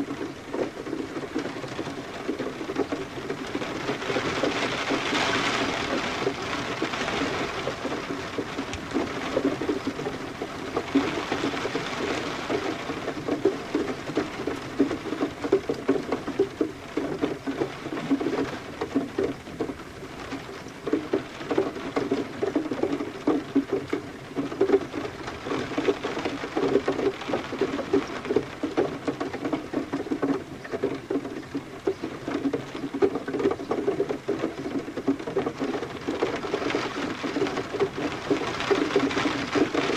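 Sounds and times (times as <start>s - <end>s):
hiss of falling rain: 0.0s - 39.9s
raindrops pattering on surface: 0.0s - 39.9s.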